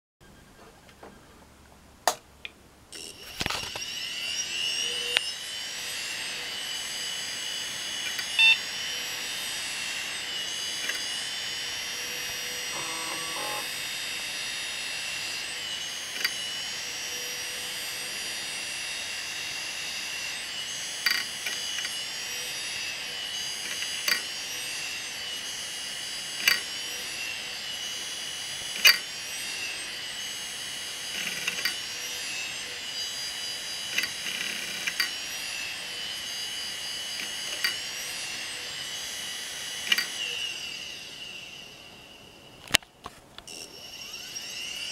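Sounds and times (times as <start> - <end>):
hard drive whine: 2.6 - 44.9.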